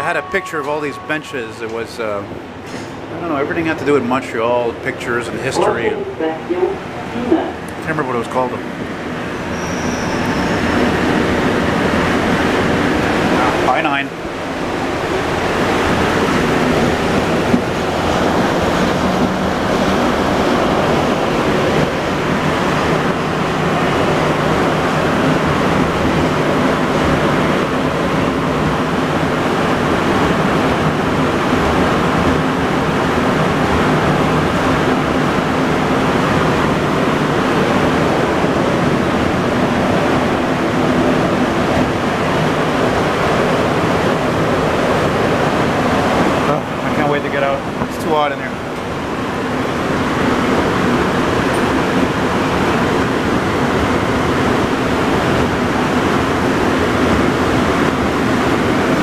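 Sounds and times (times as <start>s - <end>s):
metro train running on rubber tyres: 0.0s - 59.0s.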